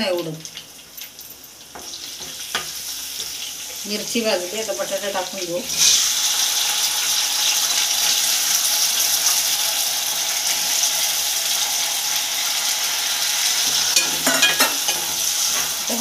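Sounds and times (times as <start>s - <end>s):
potatoes sizzling in fat: 0.0s - 16.0s.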